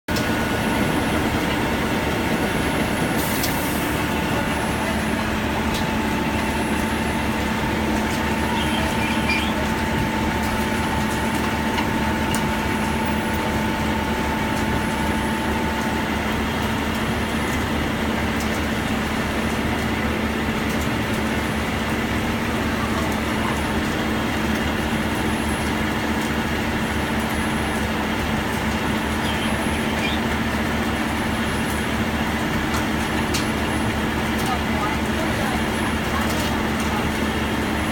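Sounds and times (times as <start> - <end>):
heavy machinery running: 0.1 - 37.9.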